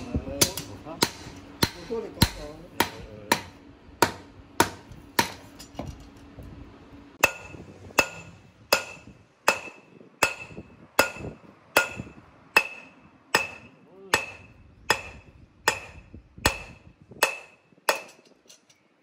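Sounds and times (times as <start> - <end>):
hammer striking steel on anvil: 0.0 - 6.0, 7.2 - 18.8.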